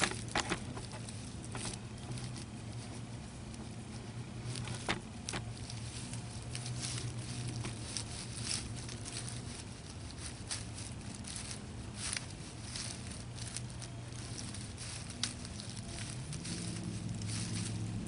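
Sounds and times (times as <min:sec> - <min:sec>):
dry leaves crackling and rustling: 0:00.0 - 0:18.0.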